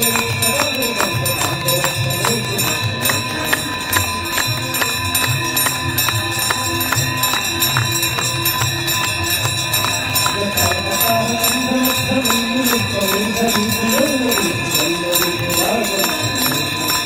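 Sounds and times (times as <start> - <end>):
bells and cymbals ringing: 0.0 - 17.0.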